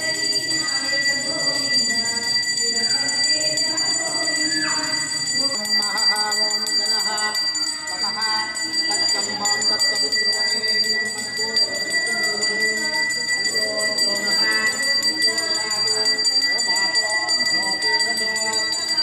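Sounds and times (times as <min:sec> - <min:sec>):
hand bell ringing: 0:00.0 - 0:19.0
voices: 0:00.0 - 0:19.0.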